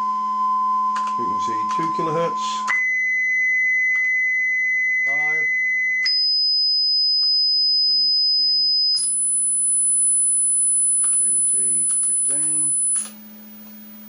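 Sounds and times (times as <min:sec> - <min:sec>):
sine test tone from loudspeaker: 0:00.0 - 0:14.0.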